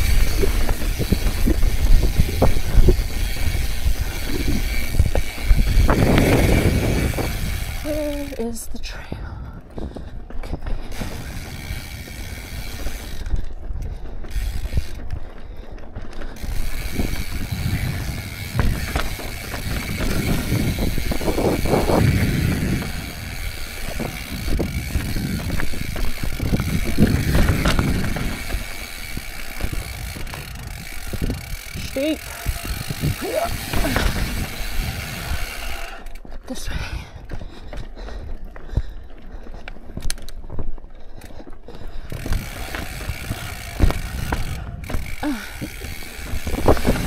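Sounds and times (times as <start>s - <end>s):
tyres rumbling over bumps: 0.0s - 8.1s, 9.8s - 36.4s, 41.9s - 47.0s
freehub ratchet buzzing: 0.0s - 8.6s, 10.9s - 15.2s, 16.3s - 36.3s, 42.0s - 47.0s.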